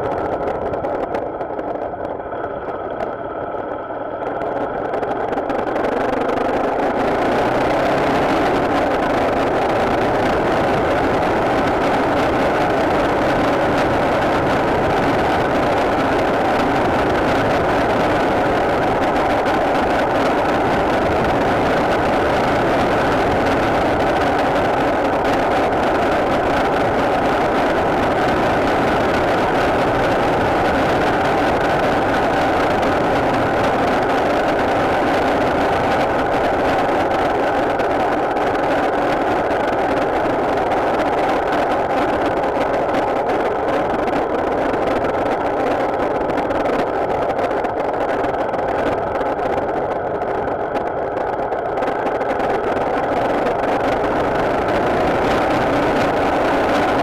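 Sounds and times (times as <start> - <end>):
motorcycle running: 0.0 - 57.0.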